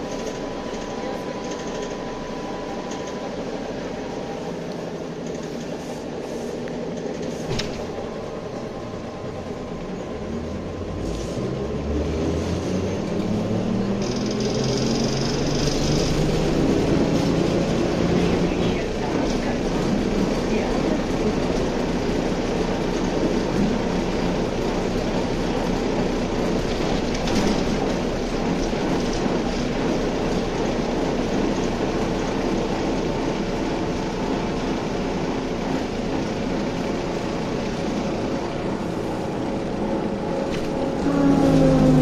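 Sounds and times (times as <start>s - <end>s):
trolleybus cabin rumble: 0.0s - 42.0s.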